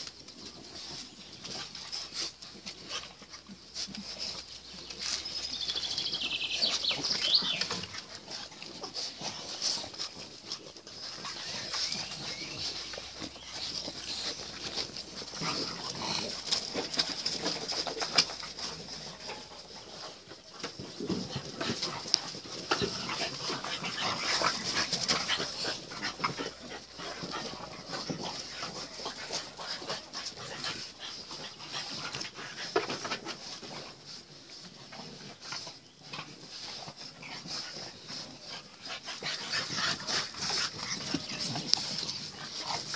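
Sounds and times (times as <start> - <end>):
puppies snuffling and whimpering: 0.0 - 42.9.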